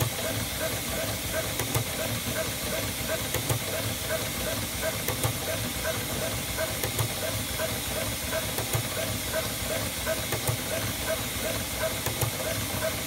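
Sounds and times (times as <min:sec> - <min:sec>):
cutting plotter hiss: 0:00.0 - 0:13.0.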